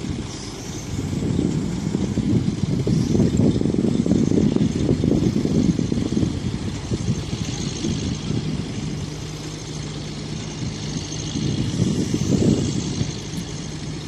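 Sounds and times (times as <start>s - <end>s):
crane diesel engine rumbling: 0.0s - 14.0s.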